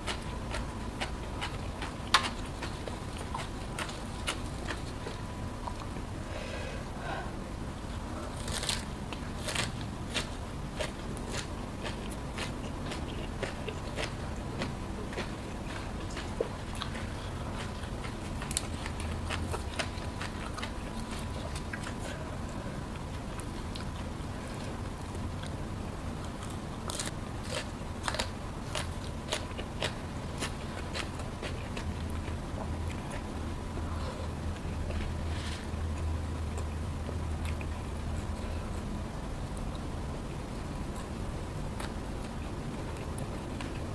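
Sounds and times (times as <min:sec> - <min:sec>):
crunchy chewing of vegetables: 0:00.0 - 0:06.1, 0:07.8 - 0:43.9.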